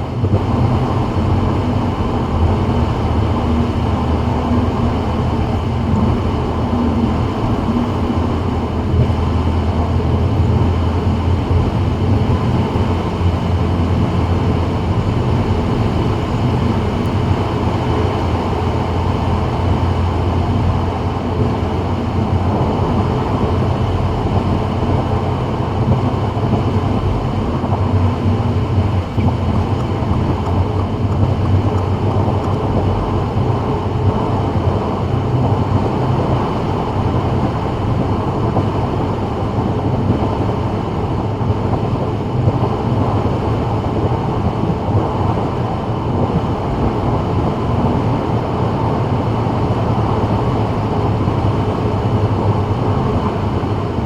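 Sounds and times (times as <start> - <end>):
car engine drone: 0.0 - 54.0
road noise on wet road: 0.0 - 54.0.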